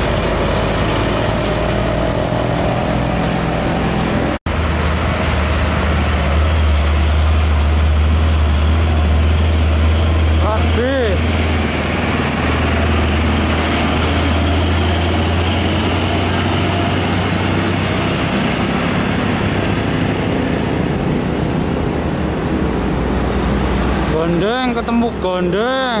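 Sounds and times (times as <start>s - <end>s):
diesel trucks passing: 0.0s - 26.0s
tyre and road noise: 0.0s - 26.0s.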